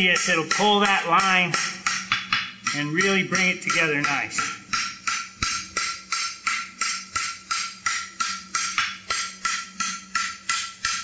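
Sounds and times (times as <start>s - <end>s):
anvil ringing: 0.0s - 11.0s
hammer striking on anvil: 0.0s - 11.0s.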